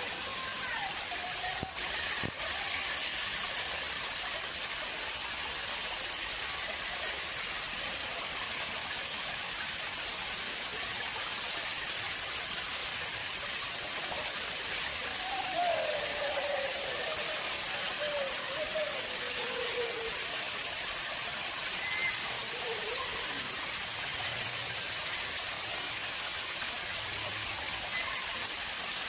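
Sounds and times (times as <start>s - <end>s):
water splashing into pond: 0.0s - 29.0s.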